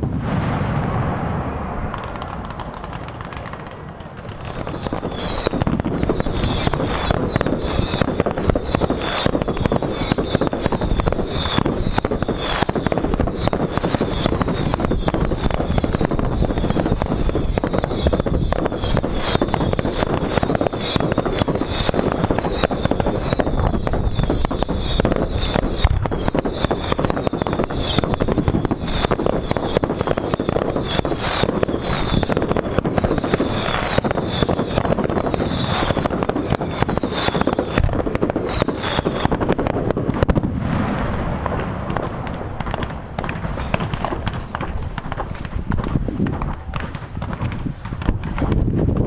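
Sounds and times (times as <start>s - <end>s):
falling firework whistles: 0.0s - 49.0s
fireworks bangs and crackling: 0.0s - 49.0s.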